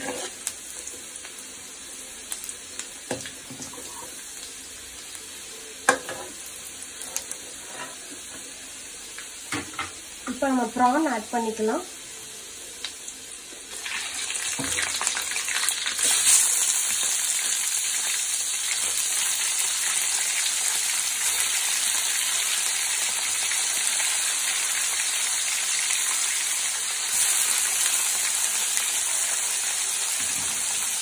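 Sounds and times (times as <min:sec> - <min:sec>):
prawns sizzling in hot oil: 0:00.0 - 0:31.0.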